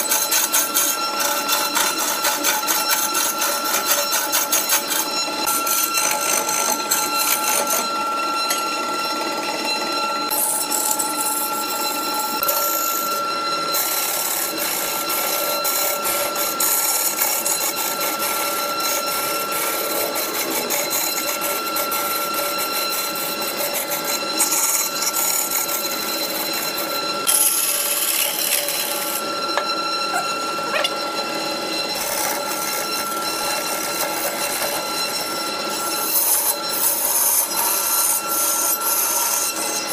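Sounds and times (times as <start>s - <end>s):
turning tool scraping wood: 0.0s - 8.6s, 10.3s - 31.0s, 31.7s - 39.9s
wood lathe whine: 0.0s - 39.9s.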